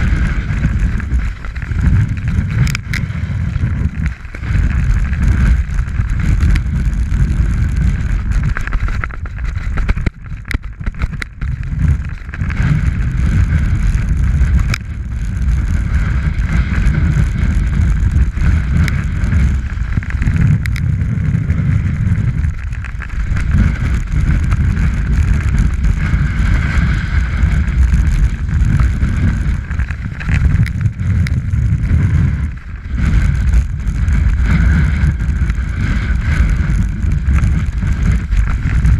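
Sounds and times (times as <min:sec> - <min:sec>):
snowboard scraping over snow: 0:00.0 - 0:38.9
wind buffeting microphone: 0:00.0 - 0:38.9.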